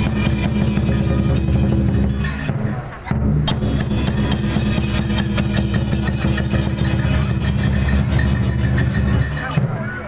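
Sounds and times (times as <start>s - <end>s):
sharp cymbal strikes: 0.0s - 9.8s
deep drum rumble: 0.0s - 10.0s.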